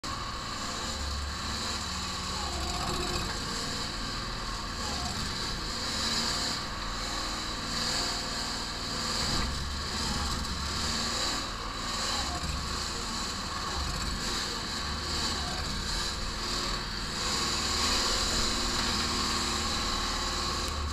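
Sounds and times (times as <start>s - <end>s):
excavator engine running: 0.0s - 20.9s
high hydraulic whine: 0.0s - 20.9s.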